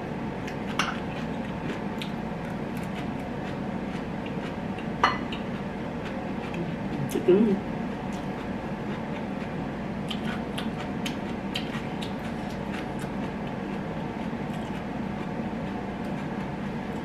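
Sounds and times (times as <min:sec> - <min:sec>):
person chewing food: 0:00.4 - 0:06.9, 0:08.0 - 0:17.0.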